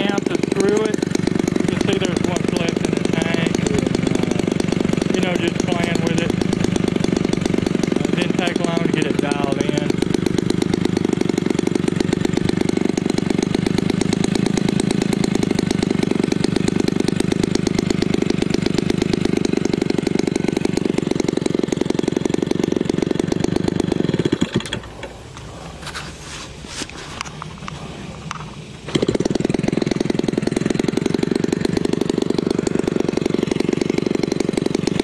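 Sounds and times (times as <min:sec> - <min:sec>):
small two-stroke engine running: 0:00.0 - 0:25.9, 0:27.2 - 0:35.0.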